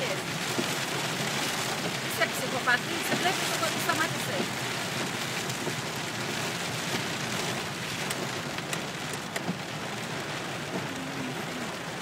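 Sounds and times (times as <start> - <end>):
heavy rain on car roof: 0.0 - 12.0
sharp raindrop hits: 0.0 - 12.0.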